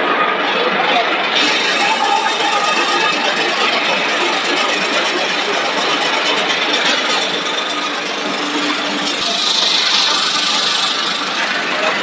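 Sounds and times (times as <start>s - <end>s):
production line machinery running: 0.0s - 12.0s.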